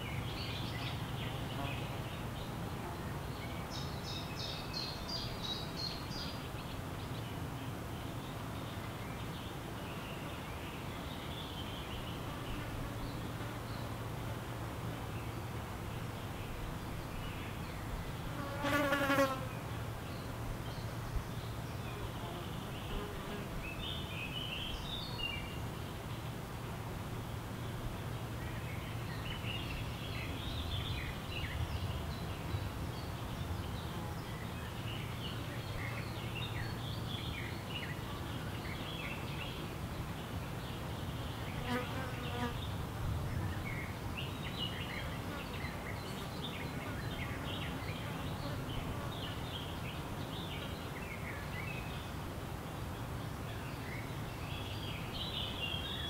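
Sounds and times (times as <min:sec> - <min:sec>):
small birds chirping: 0:00.0 - 0:14.1, 0:15.0 - 0:26.4, 0:27.2 - 0:56.0.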